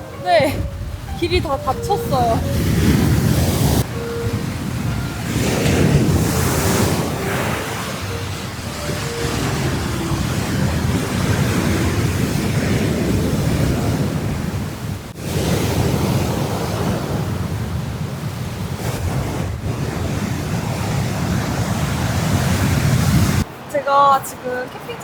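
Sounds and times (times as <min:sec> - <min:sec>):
sea surf washing in: 0:00.0 - 0:23.5
wind buffeting microphone: 0:00.0 - 0:23.5.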